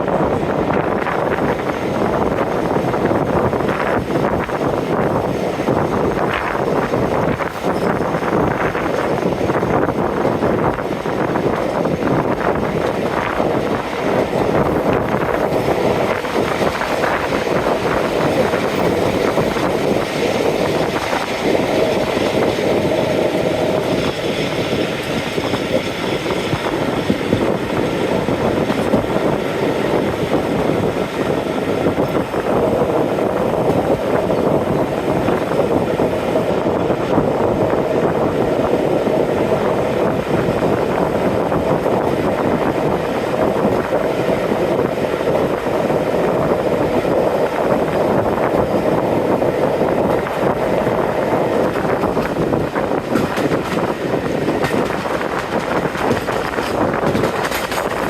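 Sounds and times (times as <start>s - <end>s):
train rumbling in motion: 0.0s - 58.0s.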